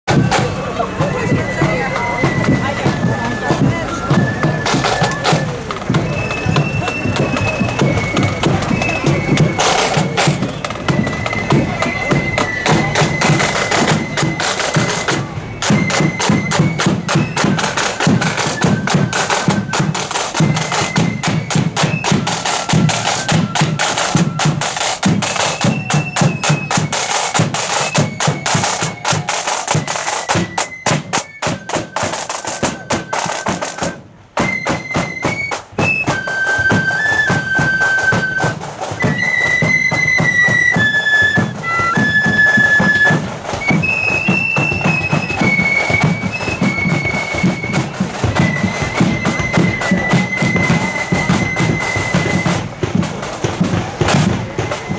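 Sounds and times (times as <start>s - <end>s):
flutes playing high notes: 0.1s - 54.9s
side drums and bass drum: 0.1s - 54.9s.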